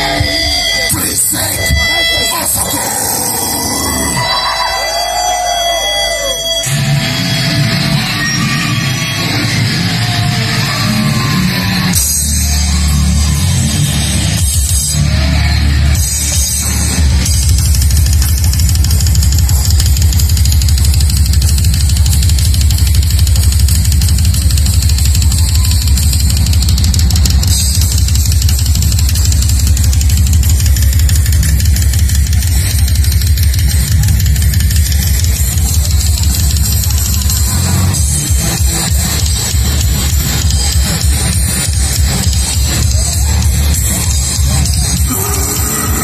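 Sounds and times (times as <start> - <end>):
death metal band playing live: 0.0 - 46.0
heavy down-tuned guitars: 0.0 - 46.0
fast dense drumming: 8.9 - 46.0.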